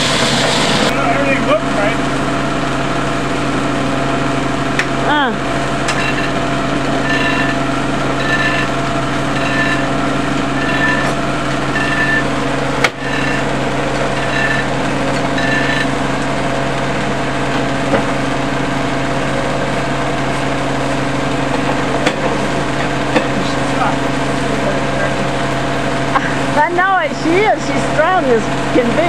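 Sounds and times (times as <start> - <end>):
sawmill machinery humming: 0.0 - 29.0.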